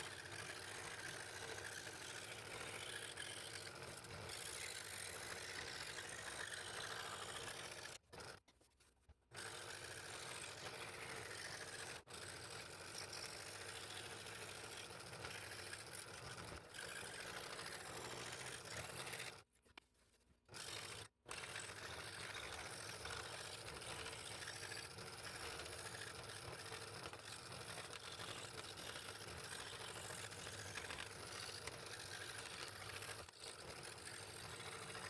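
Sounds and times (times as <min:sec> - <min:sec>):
scroll saw cutting wood: 0:00.0 - 0:08.4, 0:09.3 - 0:19.5, 0:20.5 - 0:35.0.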